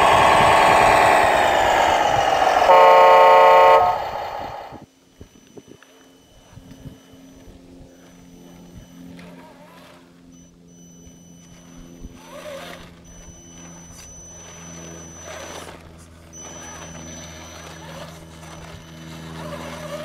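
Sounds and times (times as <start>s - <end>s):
rc truck motor whining: 0.0s - 20.0s.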